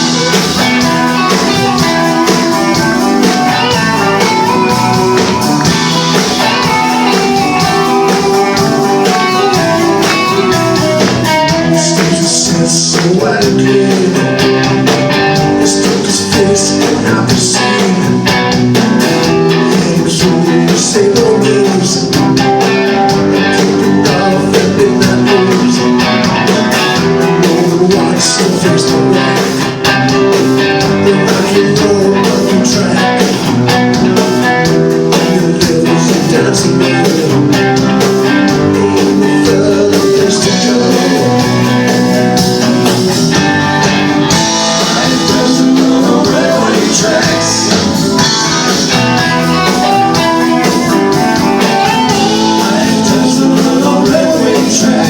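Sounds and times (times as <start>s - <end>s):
electric guitar: 0.0s - 55.0s
live band playing rock: 0.0s - 55.0s.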